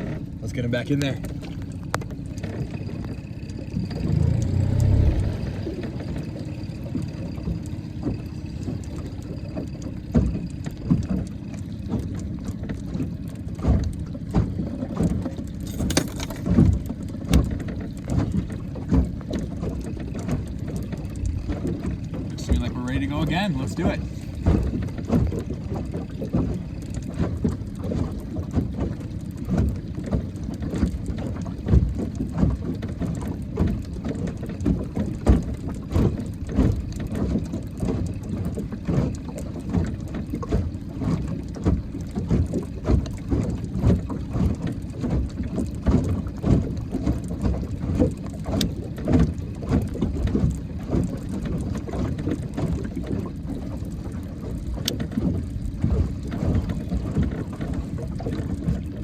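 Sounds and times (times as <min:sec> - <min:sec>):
small knocks and ticks: 0:00.0 - 0:04.9, 0:05.8 - 0:59.0.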